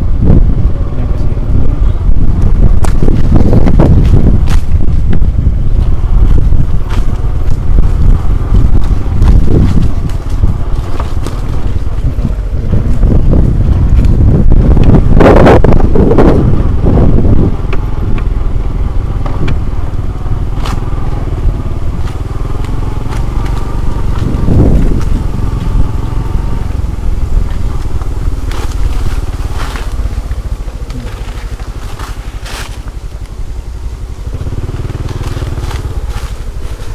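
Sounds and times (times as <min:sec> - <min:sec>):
motorcycle engine running: 0:00.0 - 0:36.9
wind rumble on microphone: 0:00.0 - 0:36.9.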